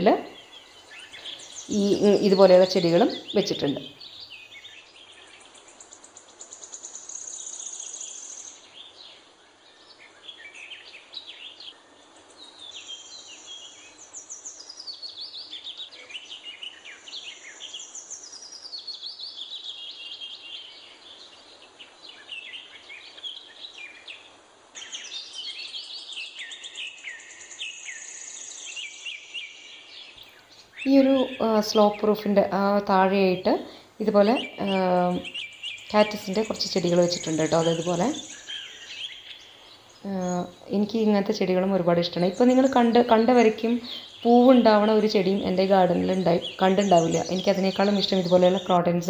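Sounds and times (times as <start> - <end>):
faint background hiss: 0.0 - 49.0
small birds chirping and trilling: 0.0 - 49.0.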